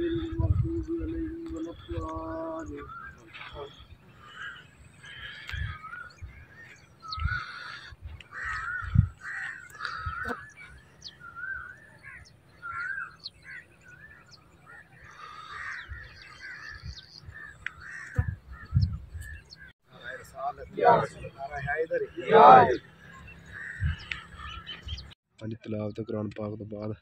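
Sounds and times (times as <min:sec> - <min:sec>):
birds chirping and warbling: 0:00.0 - 0:27.0.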